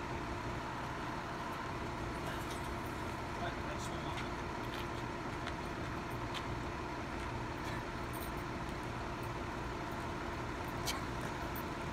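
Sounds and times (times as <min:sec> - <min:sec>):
fire engine idling: 0:00.0 - 0:11.9.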